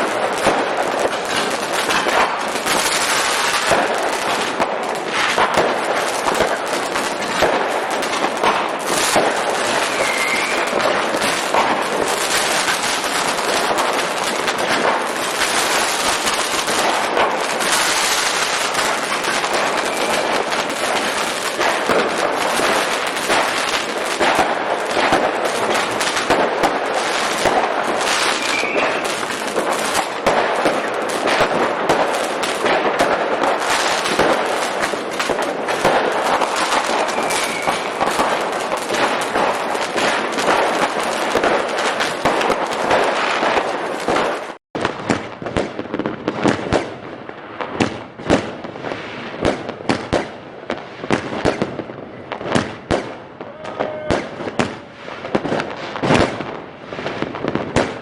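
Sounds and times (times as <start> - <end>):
fireworks crackling bangs: 0.0 - 58.0.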